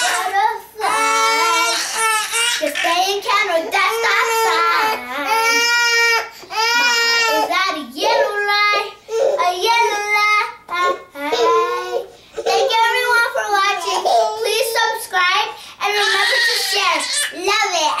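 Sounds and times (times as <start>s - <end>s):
baby's voice: 0.0s - 18.0s.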